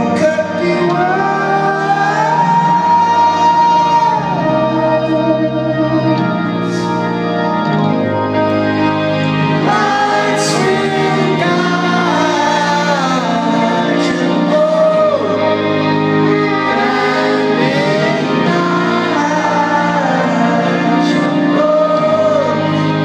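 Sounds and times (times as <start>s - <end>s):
man singing lead vocal: 0.0s - 6.9s, 9.5s - 23.0s
sustained organ chords: 0.0s - 23.0s.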